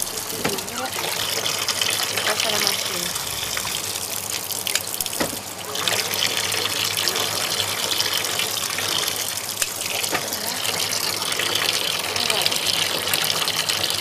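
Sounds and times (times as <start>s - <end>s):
tap water running into a sink: 0.0s - 14.0s.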